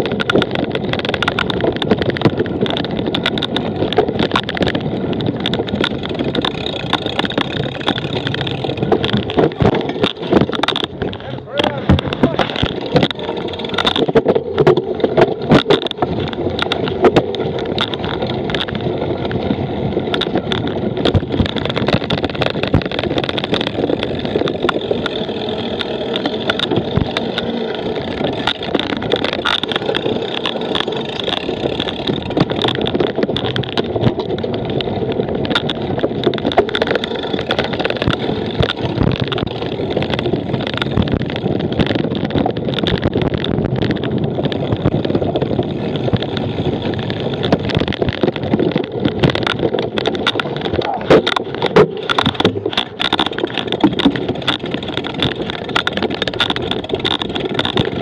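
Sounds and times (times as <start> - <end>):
bike knocking and rattling: 0.0 - 58.0
wind rushing on microphone: 0.0 - 58.0.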